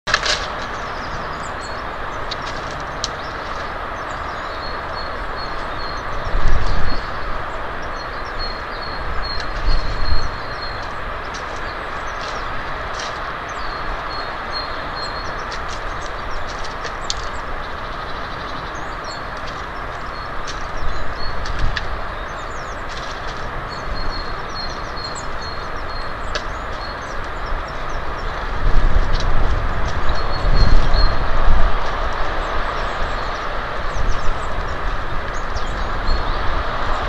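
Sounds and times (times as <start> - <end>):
rushing outdoor noise: 0.0 - 37.0.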